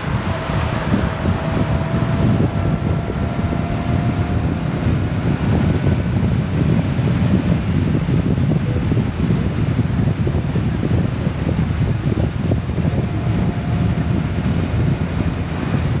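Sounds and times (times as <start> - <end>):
faint steady hum: 0.0 - 16.0
road noise: 0.0 - 16.0
wind rush over microphone: 0.0 - 16.0.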